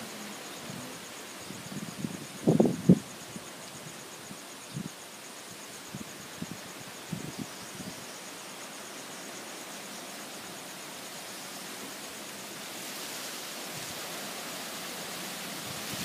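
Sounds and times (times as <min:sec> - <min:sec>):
strong wind through trees: 0:00.0 - 0:16.0.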